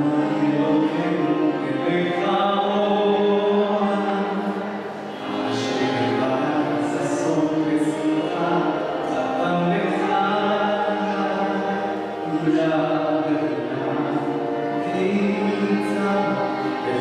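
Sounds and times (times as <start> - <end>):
electric keyboard: 0.0 - 17.0
male choir singing: 0.0 - 17.0
violins: 0.0 - 17.0
woodwind: 0.0 - 17.0.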